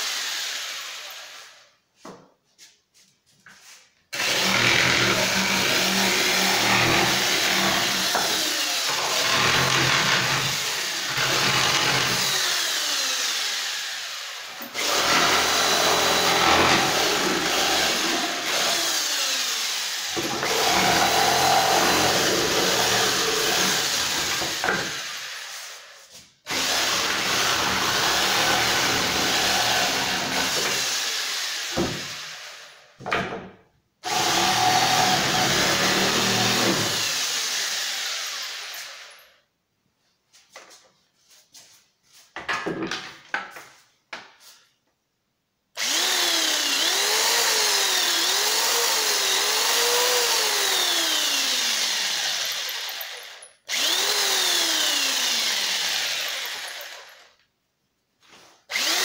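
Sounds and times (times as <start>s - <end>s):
electric saw cutting wood: 0.0s - 1.6s, 4.2s - 32.8s, 34.0s - 39.2s, 45.8s - 57.4s, 58.7s - 59.0s.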